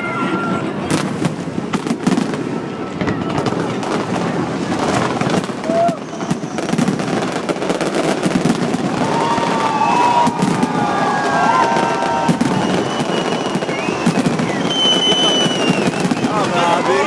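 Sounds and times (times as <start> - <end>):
fireworks bangs and crackling: 0.0 - 17.0
fireworks whistling: 0.0 - 17.0.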